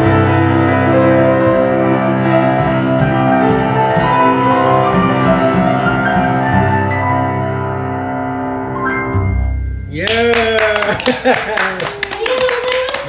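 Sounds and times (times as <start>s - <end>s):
bass notes: 0.0s - 10.5s
piano notes: 0.0s - 11.0s.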